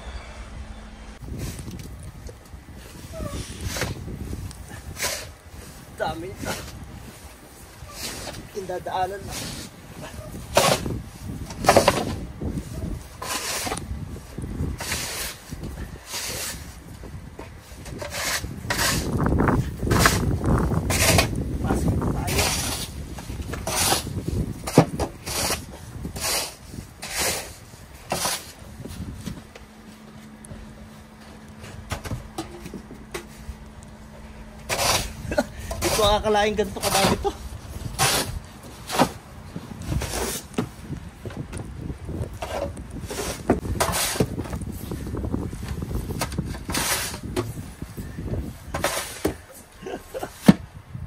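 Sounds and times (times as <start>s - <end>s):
snow crunching and scraping: 0.0s - 31.9s, 33.0s - 50.4s.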